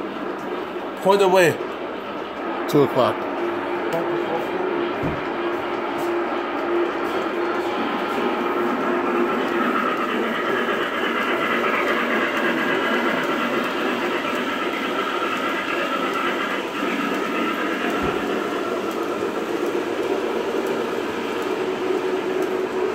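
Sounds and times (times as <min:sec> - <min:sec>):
model train wheels rumbling: 0:00.0 - 0:22.9.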